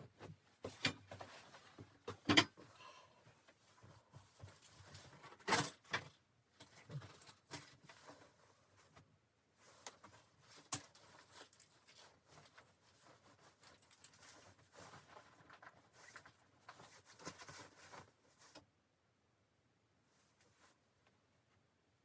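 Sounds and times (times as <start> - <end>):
rustling and handling noises: 0.0 - 18.9, 20.0 - 22.0.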